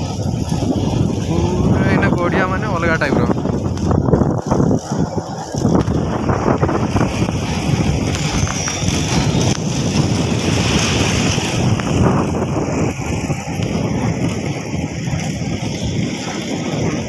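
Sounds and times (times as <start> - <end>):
tyres rumbling on road: 0.0 - 17.0
wind buffeting microphone: 0.0 - 17.0.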